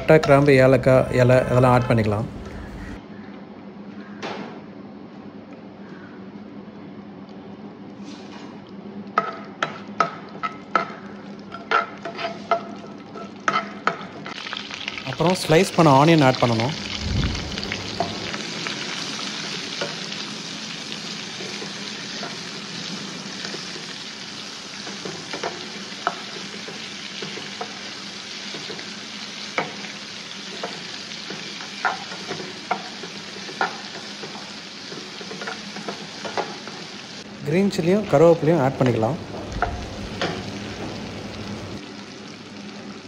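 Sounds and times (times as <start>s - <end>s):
onions sizzling in oil: 0.0s - 3.0s, 10.7s - 43.0s.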